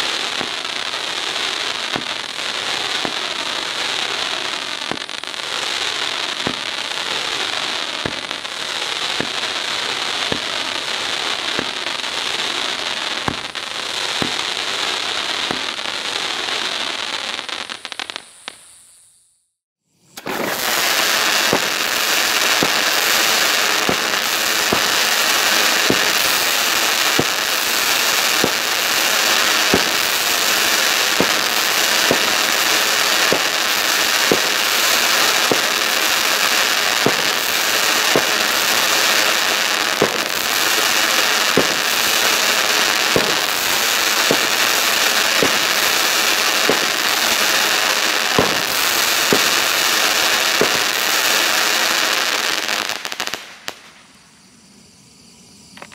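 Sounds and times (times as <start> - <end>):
fireworks launch pops: 0.0 - 5.6, 6.2 - 12.1, 13.1 - 19.2, 20.0 - 54.4, 55.7 - 55.9
fireworks crackling and hissing: 0.0 - 55.9.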